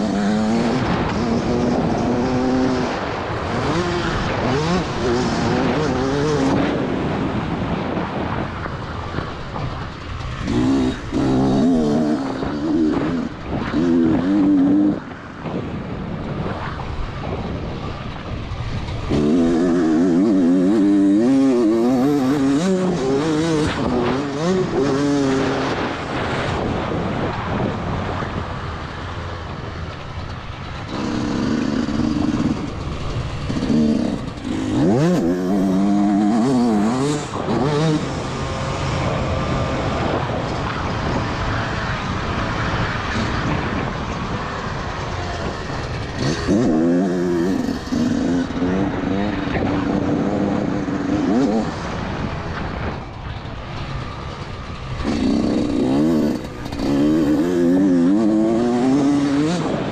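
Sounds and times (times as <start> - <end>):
motorcycle engine revving: 0.0 - 59.9
steady rush of noise: 0.0 - 59.9.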